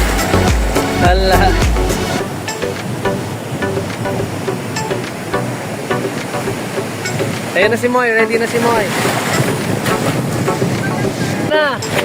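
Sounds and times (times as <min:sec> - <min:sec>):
plucked notes over a beat: 0:00.0 - 0:12.0.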